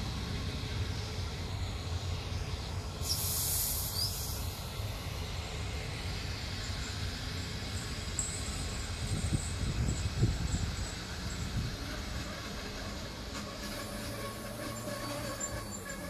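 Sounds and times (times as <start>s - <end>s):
train wheels rumbling on track: 0.0s - 16.0s
high hiss: 0.2s - 16.0s.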